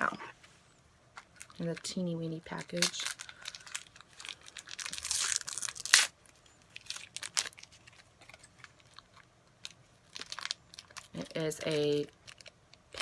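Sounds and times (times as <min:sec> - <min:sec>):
packaging crinkling: 0:01.1 - 0:13.0
packaging ripping: 0:02.5 - 0:13.0.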